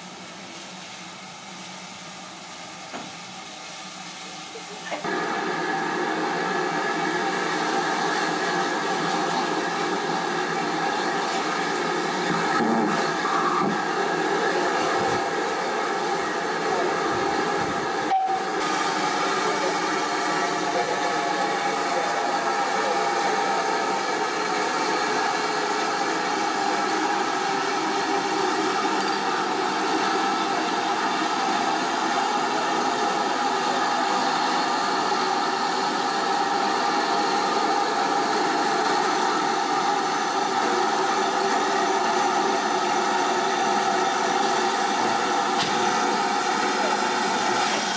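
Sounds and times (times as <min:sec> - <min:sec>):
steam hissing from locomotive: 0:00.0 - 0:47.9.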